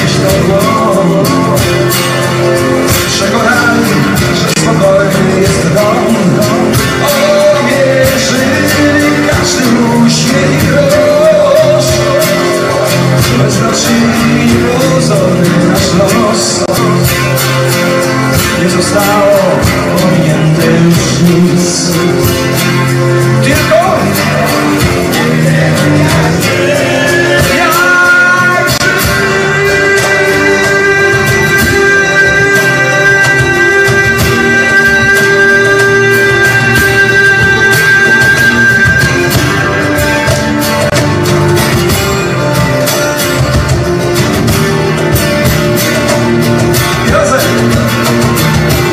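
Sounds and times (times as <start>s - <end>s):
cajon beat: 0.0s - 48.9s
man singing: 0.0s - 48.9s
strummed acoustic guitars: 0.0s - 48.9s.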